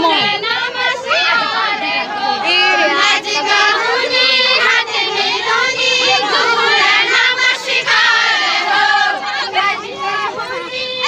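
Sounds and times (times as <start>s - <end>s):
group of women singing: 0.0s - 11.0s
people talking: 0.0s - 11.0s.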